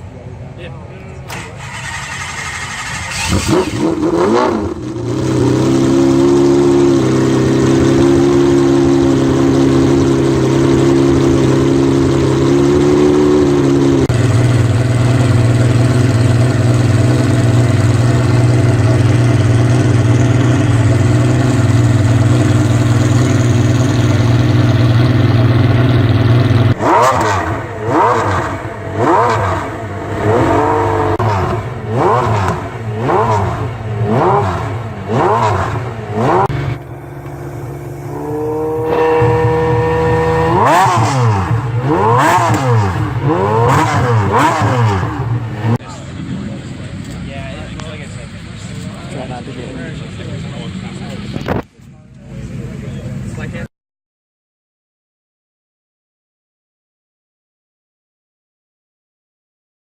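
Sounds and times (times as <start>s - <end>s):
car engine idling and revving: 0.0s - 53.7s.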